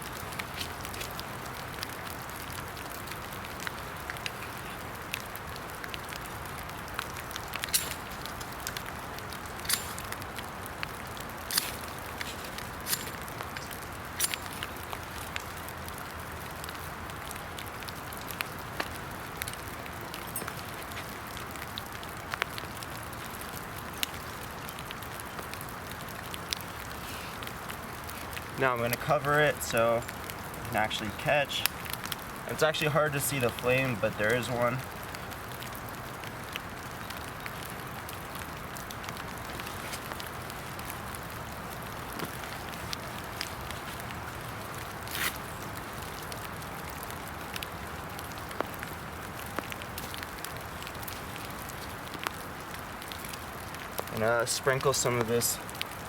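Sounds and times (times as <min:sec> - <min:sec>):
rain falling: 0:00.0 - 0:56.0
raindrops ticking: 0:00.0 - 0:56.0.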